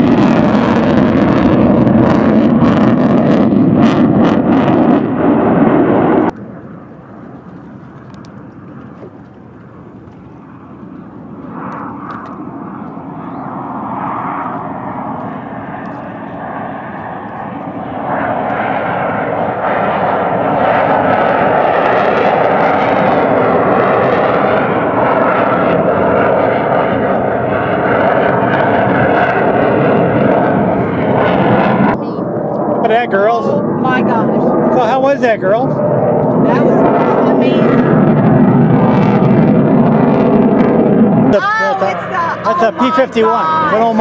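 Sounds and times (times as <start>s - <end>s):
aircraft engine flying past: 0.0s - 44.0s.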